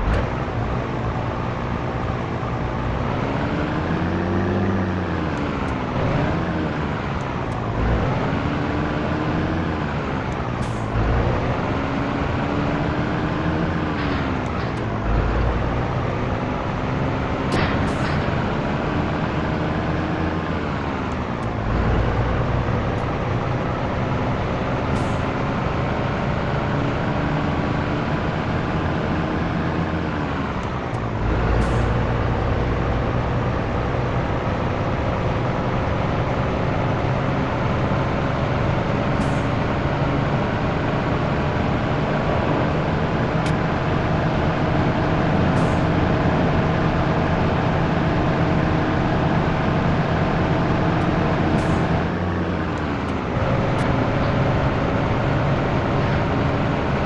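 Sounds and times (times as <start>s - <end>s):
truck diesel engine accelerating: 0.0s - 57.0s.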